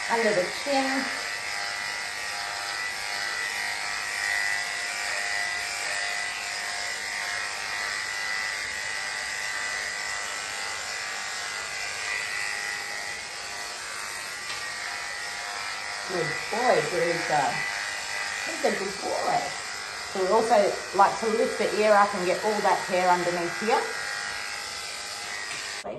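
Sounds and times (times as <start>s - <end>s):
electric clippers humming: 0.0s - 25.9s.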